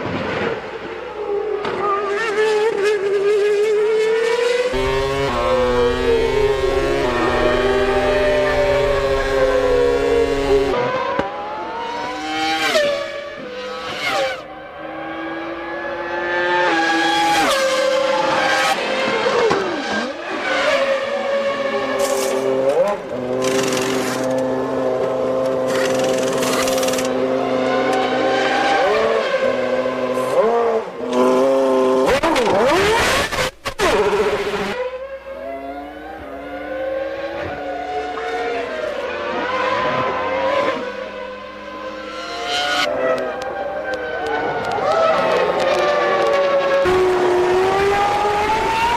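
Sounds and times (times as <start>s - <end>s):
race car engines at high revs: 0.6s - 48.9s.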